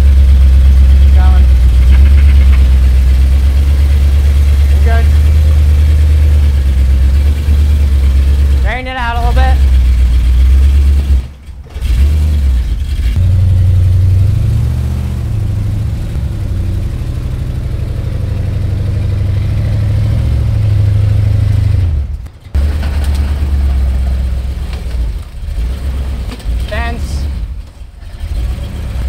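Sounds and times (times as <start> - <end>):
car engine running unevenly: 0.0 - 29.0.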